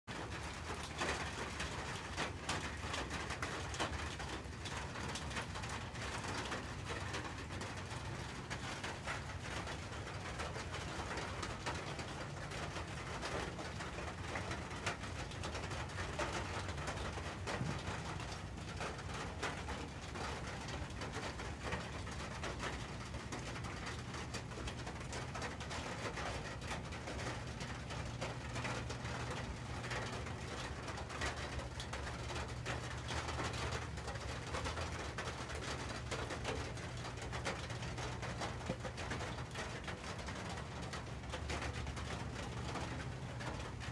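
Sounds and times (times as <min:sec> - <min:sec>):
rain pattering on metal roof: 0:00.1 - 0:43.9.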